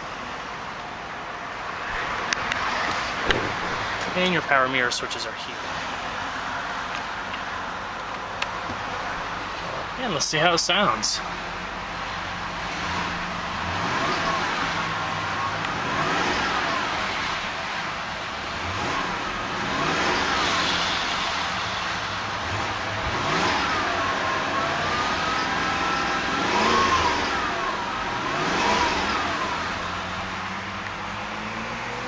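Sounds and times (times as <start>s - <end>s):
car engine revving: 1.6s - 7.0s, 8.4s - 32.0s.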